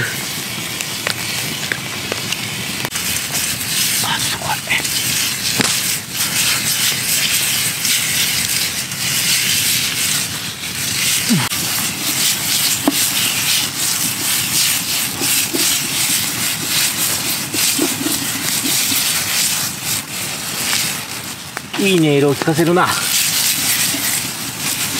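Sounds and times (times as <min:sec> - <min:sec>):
campfire popping: 0:00.0 - 0:24.9
meat sizzling in frying pan: 0:00.0 - 0:24.9.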